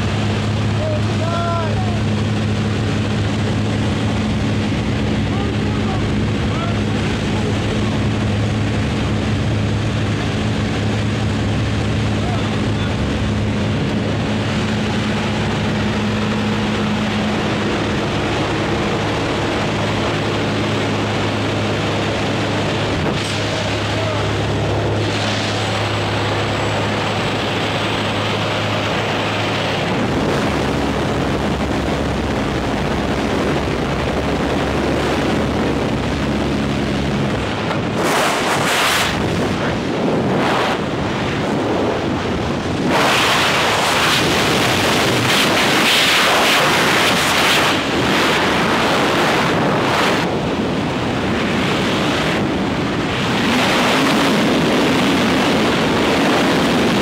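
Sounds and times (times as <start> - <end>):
freefall wind on microphone: 0.0 - 57.0
plane engine droning: 0.0 - 57.0
wind through open door: 0.0 - 57.0.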